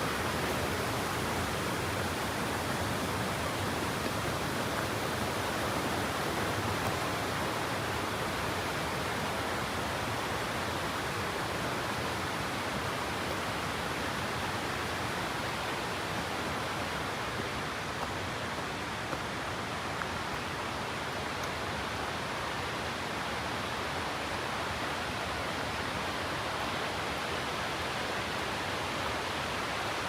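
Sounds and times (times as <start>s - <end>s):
running water rushing: 0.0s - 30.0s.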